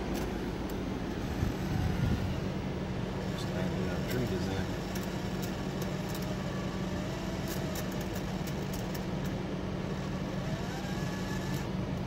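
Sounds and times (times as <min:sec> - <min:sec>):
car air conditioning hum: 0:00.0 - 0:12.0.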